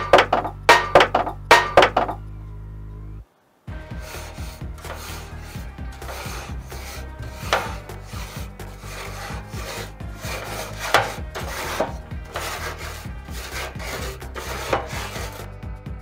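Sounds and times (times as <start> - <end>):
grill brush scraping metal grates: 0.0 - 2.2, 3.7 - 15.5.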